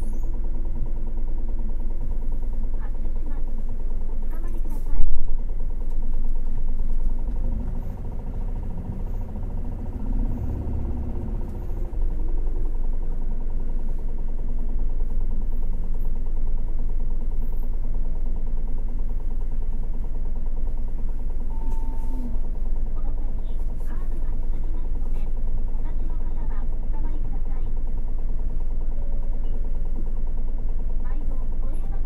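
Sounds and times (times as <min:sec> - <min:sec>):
bus engine rumbling: 0:00.0 - 0:32.0.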